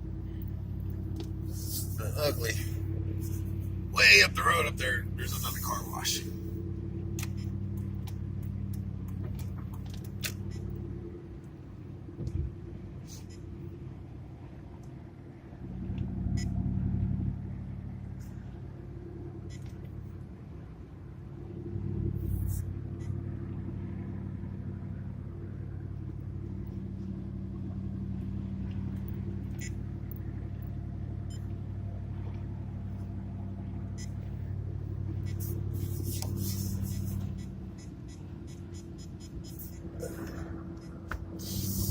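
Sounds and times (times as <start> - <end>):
truck engine and road noise: 0.0 - 41.9.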